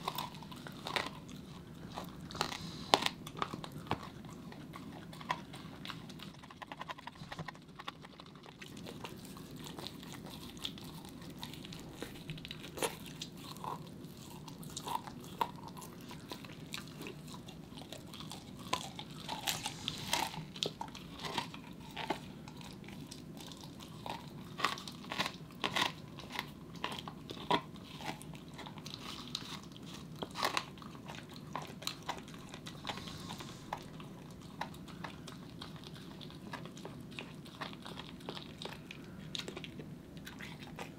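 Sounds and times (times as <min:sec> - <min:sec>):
dog gnawing bone: 0:00.0 - 0:40.9.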